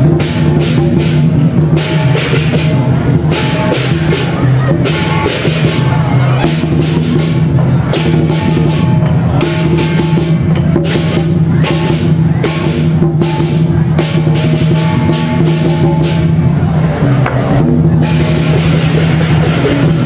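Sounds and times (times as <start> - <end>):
hand cymbals crashing: 0.0 - 20.0
large drum beating: 0.0 - 20.0.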